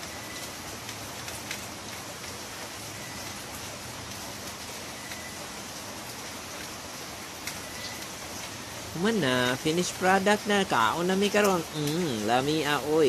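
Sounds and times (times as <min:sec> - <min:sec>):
wood fire hissing and crackling: 0:00.0 - 0:13.0.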